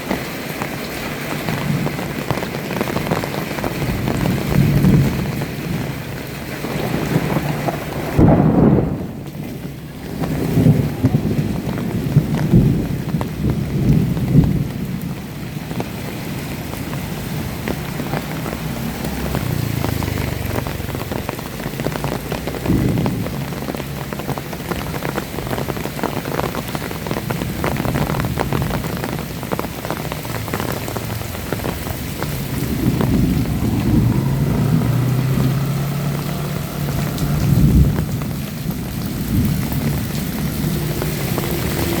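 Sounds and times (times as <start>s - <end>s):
heavy rain pattering: 0.0s - 42.0s
low thunder rumbles: 1.4s - 42.0s.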